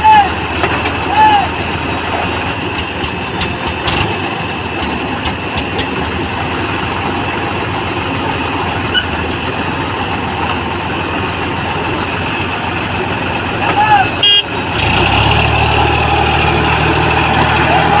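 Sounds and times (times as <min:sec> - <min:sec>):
diesel machinery engine running: 0:00.0 - 0:18.0.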